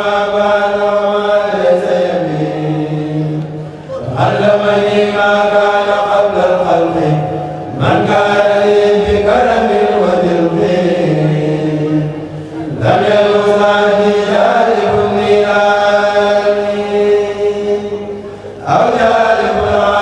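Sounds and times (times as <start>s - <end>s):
men's choir chanting: 0.0s - 20.0s.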